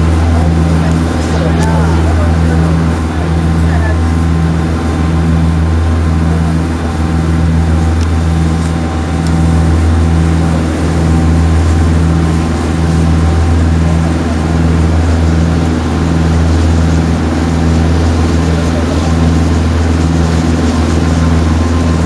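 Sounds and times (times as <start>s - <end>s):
boat engine droning: 0.0s - 22.0s
water rushing along hull: 0.0s - 22.0s.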